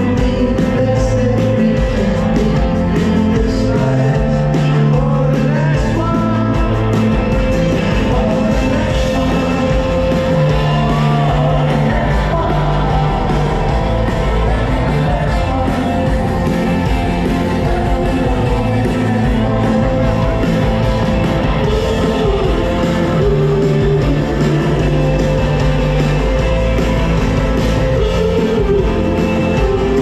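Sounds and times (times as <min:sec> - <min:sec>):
guitar: 0:00.0 - 0:30.0
live rock band playing: 0:00.0 - 0:30.0
person singing: 0:00.0 - 0:30.0.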